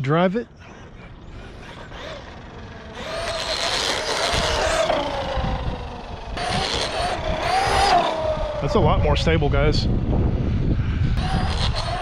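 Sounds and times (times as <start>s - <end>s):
electric motor whining: 0.8s - 12.0s.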